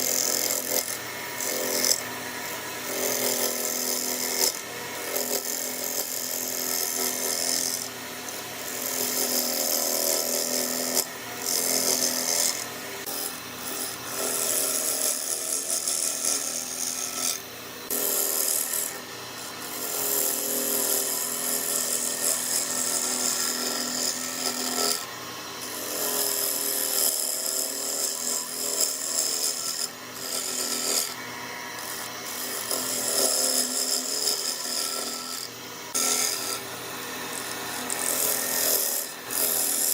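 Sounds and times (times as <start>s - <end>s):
turning tool scraping wood: 0.0s - 39.9s
lathe motor hum: 0.2s - 39.9s.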